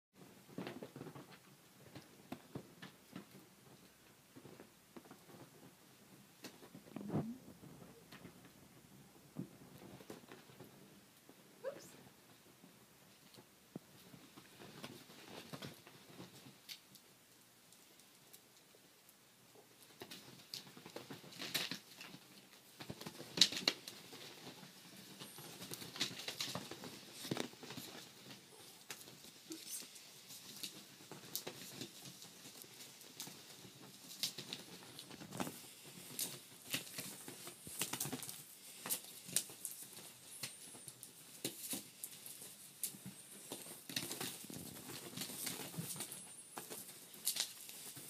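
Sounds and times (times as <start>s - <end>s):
kittens scampering and scrabbling: 0.2s - 48.0s.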